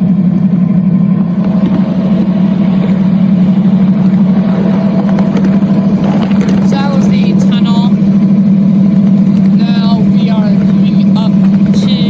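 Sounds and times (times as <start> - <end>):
ride-on locomotive drone: 0.0 - 12.0.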